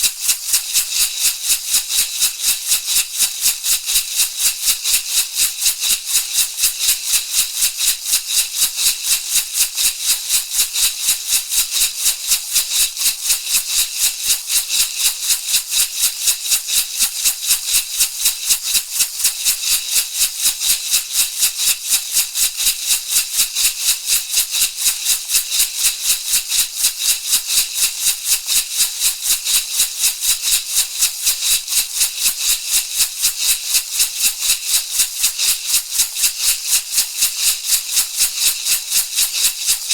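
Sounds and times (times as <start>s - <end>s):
rattle shaken rhythmically: 0.0s - 39.9s.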